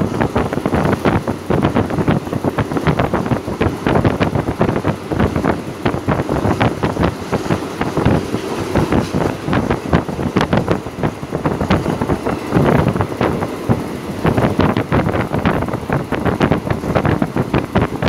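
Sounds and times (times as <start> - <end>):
train wheels clattering: 0.0 - 18.0
wind buffeting microphone: 0.0 - 18.0.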